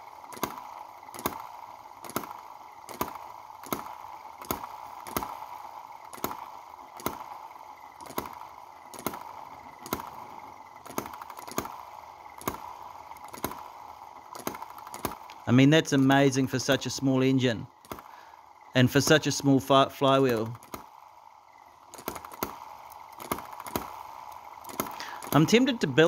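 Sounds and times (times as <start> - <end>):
model engine clicking: 0.0 - 26.0
steady engine whir: 0.0 - 26.0.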